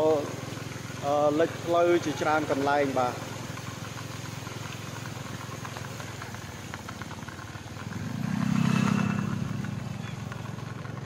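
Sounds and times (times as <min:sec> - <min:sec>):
small motorcycle engine: 0:00.0 - 0:11.0.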